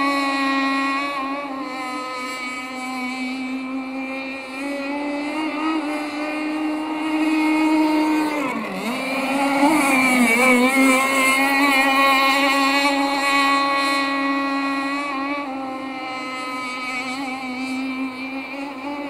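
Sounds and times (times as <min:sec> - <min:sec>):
model boat two-stroke engine: 0:00.0 - 0:19.0.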